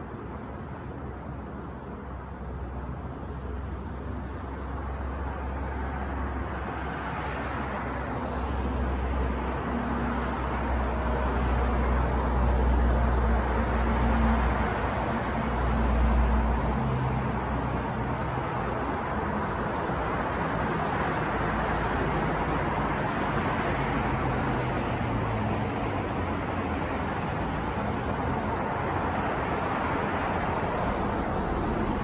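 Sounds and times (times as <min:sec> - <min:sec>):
street traffic rumble: 0:00.0 - 0:32.0.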